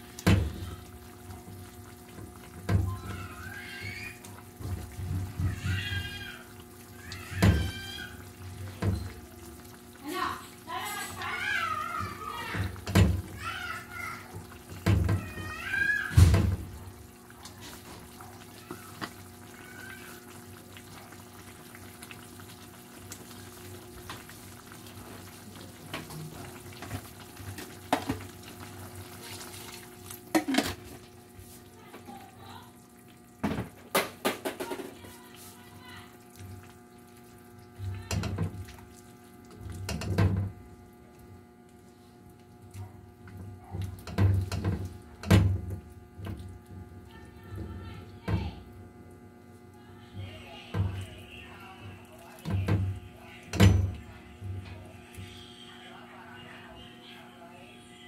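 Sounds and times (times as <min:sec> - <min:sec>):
liquid sloshing in a pan: 0:00.0 - 0:55.4.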